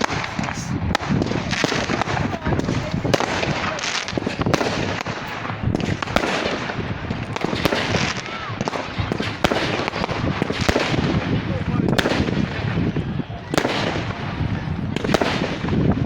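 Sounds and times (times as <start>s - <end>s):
fireworks hissing and banging: 0.0s - 16.0s.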